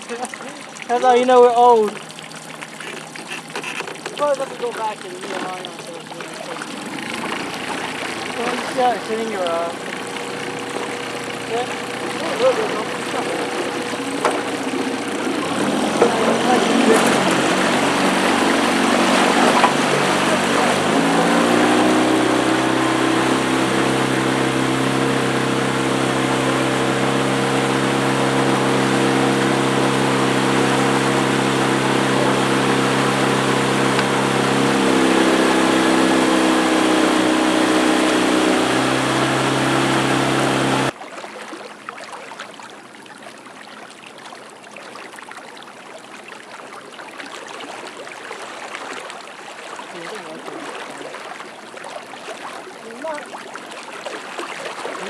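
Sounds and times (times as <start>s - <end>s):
outboard motor running: 0.0s - 41.0s, 45.9s - 55.0s
river water moving: 0.0s - 55.0s.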